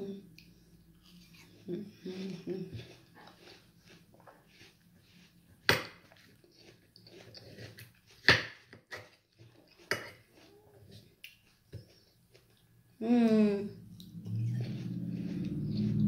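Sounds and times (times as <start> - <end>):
wet chewing: 0.3 - 12.7, 13.8 - 16.0.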